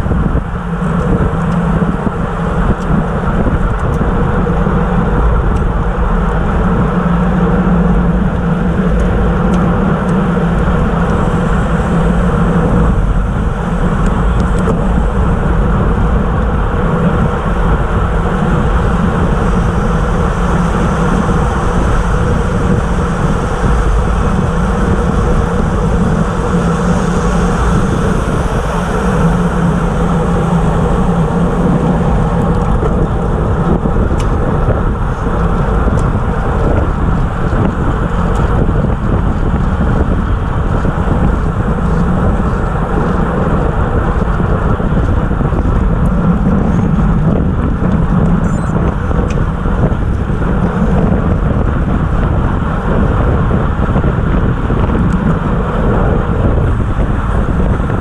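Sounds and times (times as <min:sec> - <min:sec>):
tyres humming on asphalt: 0:00.0 - 0:58.0
wind buffeting microphone: 0:00.0 - 0:58.0.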